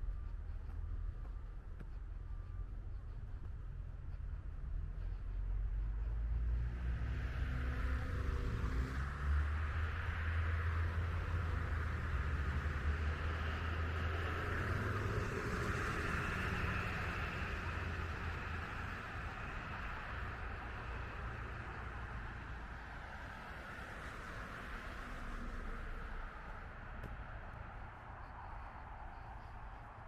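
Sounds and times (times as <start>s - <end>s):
passing vehicle engine and tyres: 0.0s - 30.0s.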